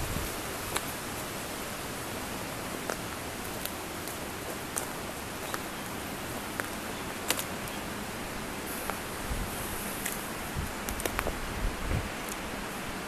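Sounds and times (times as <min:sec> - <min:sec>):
outdoor wind noise: 0:00.0 - 0:13.0.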